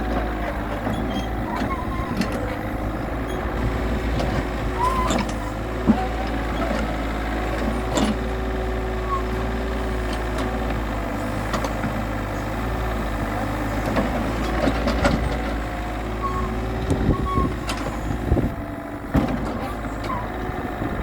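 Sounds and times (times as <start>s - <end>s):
backhoe engine running: 0.0s - 21.0s.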